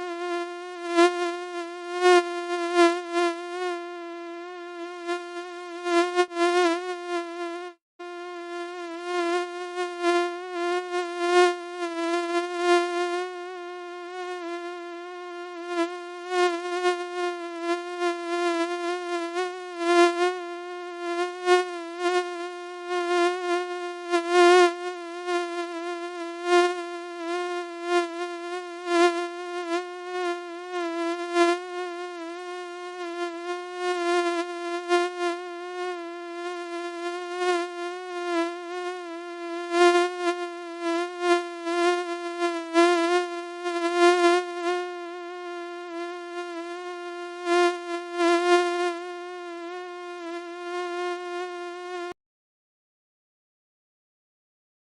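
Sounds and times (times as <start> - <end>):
mosquito whine: 0.0 - 52.2.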